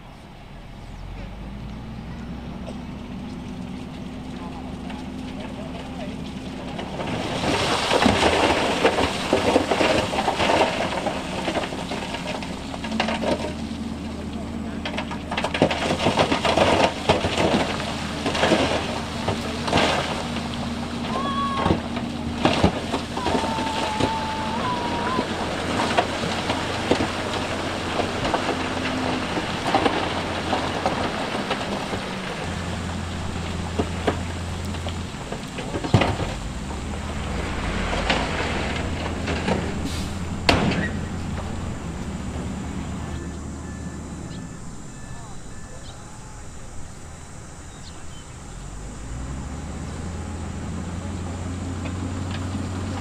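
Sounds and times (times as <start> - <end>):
heavy diesel machinery running: 0.0 - 53.0
rocks clattering and knocking: 1.2 - 44.6.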